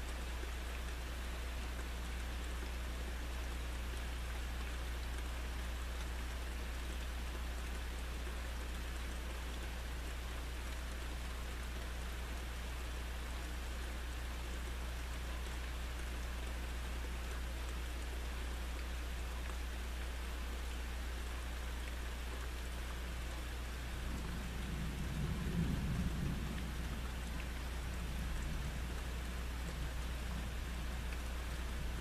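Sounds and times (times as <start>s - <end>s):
heavy rain hiss: 0.0s - 32.0s.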